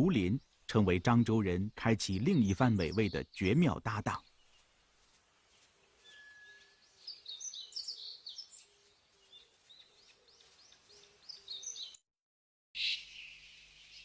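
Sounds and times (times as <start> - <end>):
birds chirping and singing: 0.0 - 4.8, 5.5 - 12.0.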